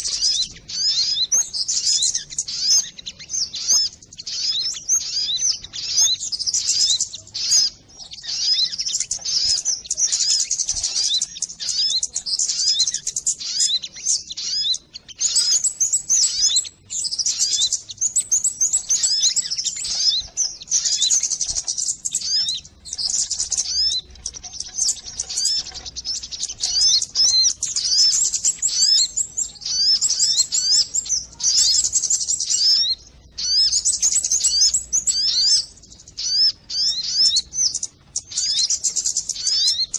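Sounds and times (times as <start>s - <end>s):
rapid high-pitched bird chirping: 0.0s - 39.9s.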